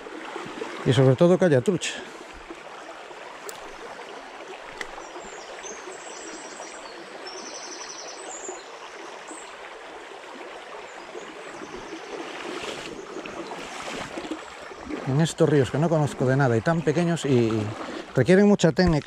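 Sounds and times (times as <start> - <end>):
stream flowing over gravel: 0.0 - 19.0.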